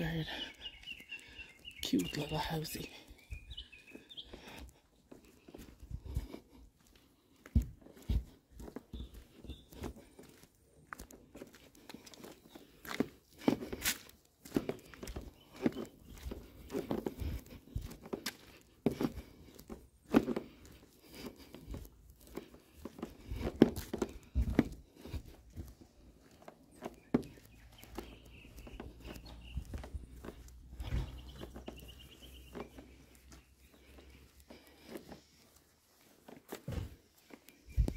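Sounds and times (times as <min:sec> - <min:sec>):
footsteps on paved road: 0:00.0 - 0:37.9.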